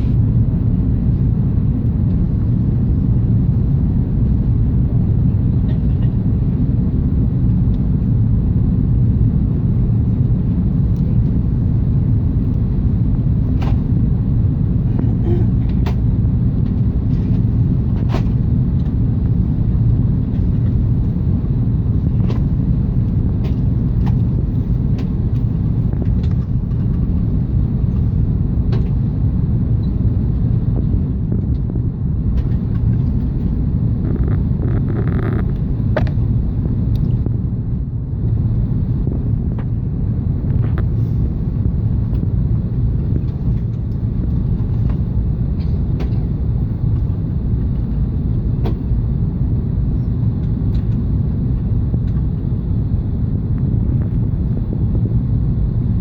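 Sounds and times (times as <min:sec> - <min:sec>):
engine and airflow rumble in cabin: 0:00.0 - 0:56.0.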